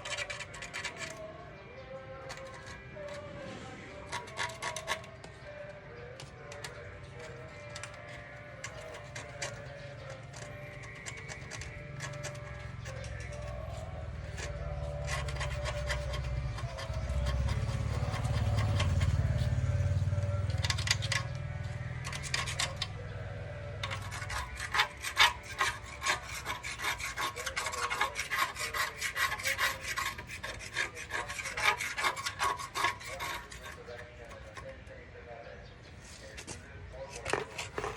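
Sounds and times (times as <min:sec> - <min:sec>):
hand scraping strokes: 0:00.0 - 0:34.8, 0:36.0 - 0:37.9.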